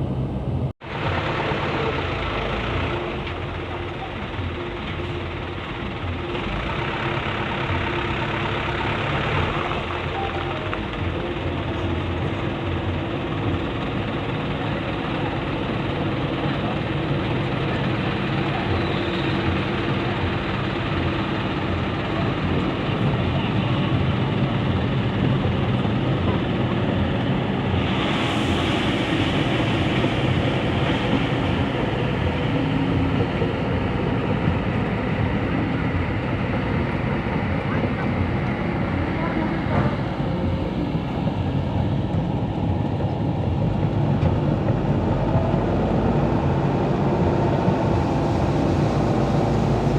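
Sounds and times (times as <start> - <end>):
heavy diesel engines rumbling: 0.0 - 49.9.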